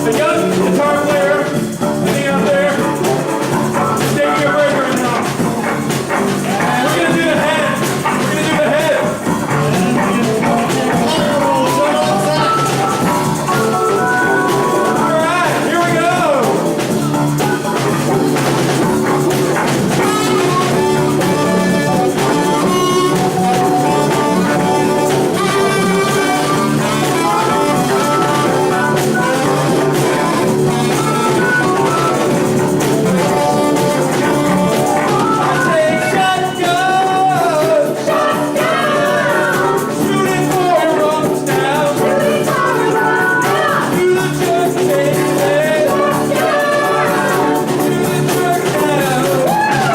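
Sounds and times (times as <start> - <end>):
person singing: 0.0 - 16.7, 19.6 - 49.9
brass instruments: 0.0 - 49.9
drum kit: 0.0 - 49.9
guitar: 0.0 - 49.9.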